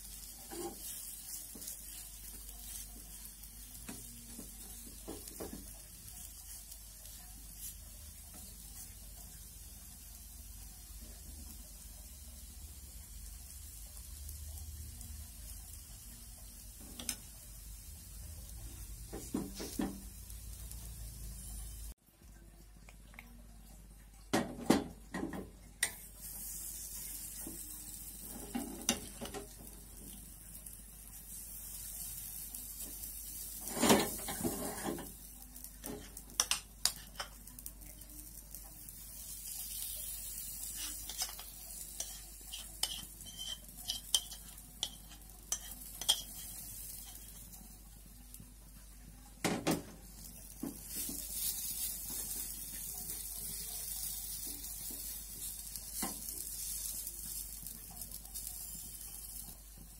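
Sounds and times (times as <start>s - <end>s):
batter sizzling in pan: 0.0s - 22.4s, 23.4s - 59.9s.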